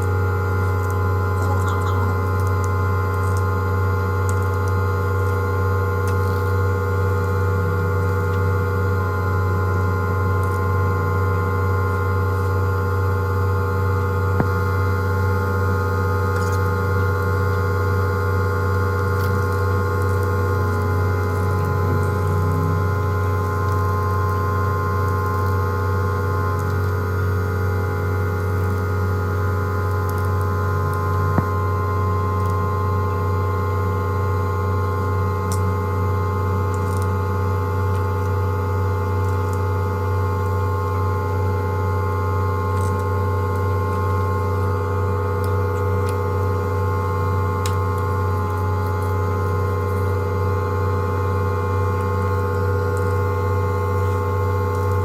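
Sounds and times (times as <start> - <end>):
electric machine hum: 0.0 - 55.0.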